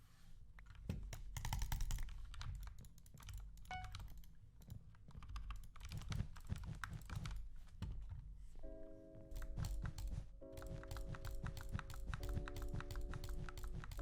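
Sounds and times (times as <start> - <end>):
mechanical keyboard typing: 0.6 - 7.5, 9.3 - 14.0.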